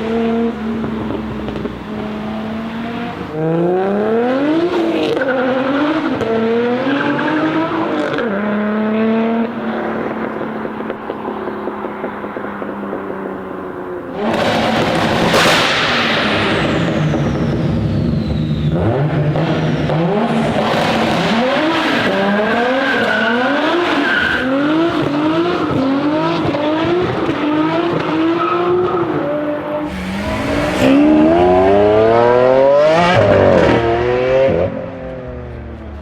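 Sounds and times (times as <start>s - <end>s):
car engine revving hard: 0.0s - 34.9s.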